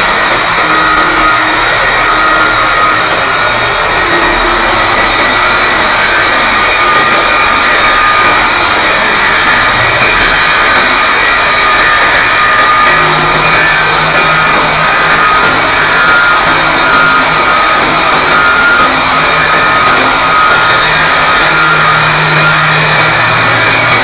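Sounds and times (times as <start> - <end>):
core drill grinding into concrete: 0.0 - 24.0.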